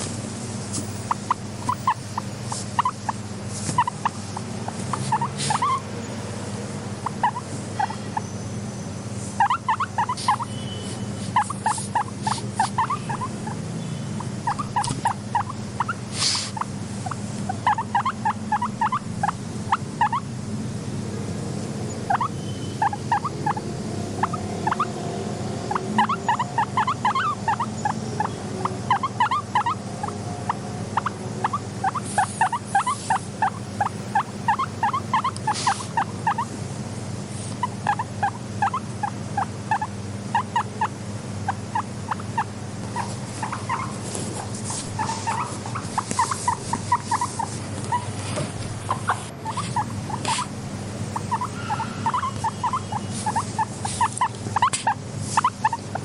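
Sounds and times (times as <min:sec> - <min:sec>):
steady low hum: 0:00.0 - 0:56.0
guinea pig squeaking: 0:00.8 - 0:05.9, 0:07.0 - 0:08.4, 0:09.3 - 0:20.3, 0:21.9 - 0:25.0, 0:25.6 - 0:36.5, 0:37.3 - 0:56.0.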